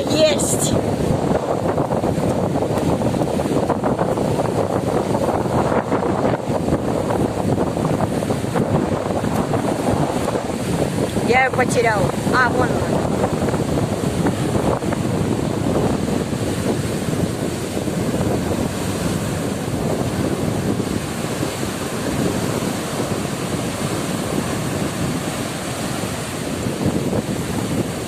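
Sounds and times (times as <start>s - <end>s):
surf crashing on beach: 0.0s - 28.0s
wind buffeting microphone: 0.0s - 28.0s.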